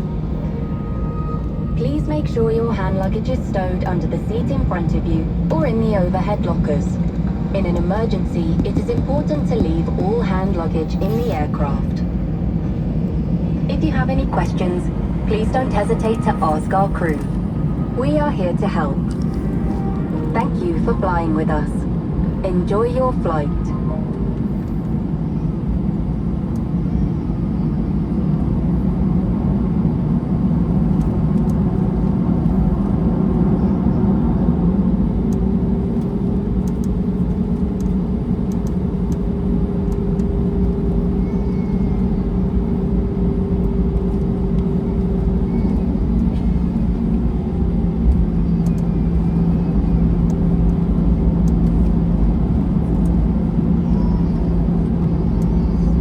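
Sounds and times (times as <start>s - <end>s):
jet engine hum: 0.0s - 56.0s.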